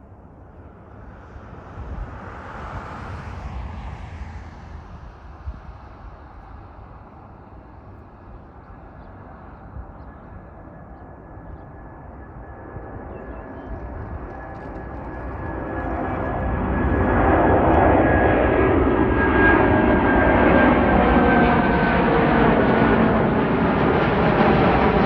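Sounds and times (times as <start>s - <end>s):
jet engines rumbling: 0.1s - 25.0s
engine whine: 0.3s - 25.0s.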